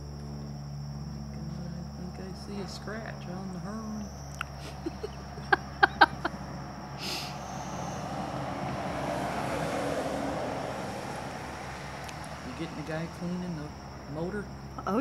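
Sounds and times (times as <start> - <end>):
crickets chirping: 0.0 - 15.0
vehicle passing by: 0.0 - 15.0.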